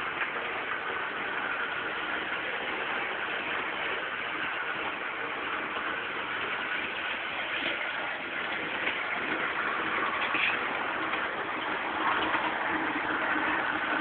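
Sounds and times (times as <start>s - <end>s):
model locomotive running with hiss: 0.0s - 14.0s.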